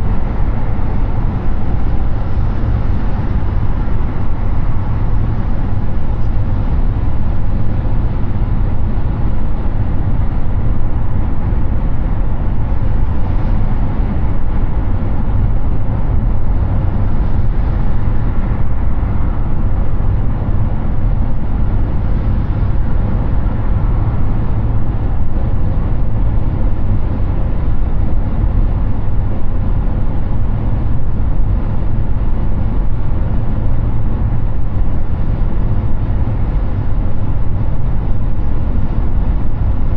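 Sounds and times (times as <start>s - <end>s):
car road noise on highway: 0.0s - 39.9s
deep rumble: 0.0s - 39.9s.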